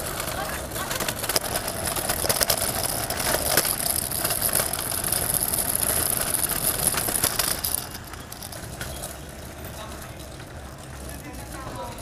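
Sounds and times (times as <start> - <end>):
clicks and rattles: 0.0 - 11.0
vehicle engine running: 0.0 - 12.0.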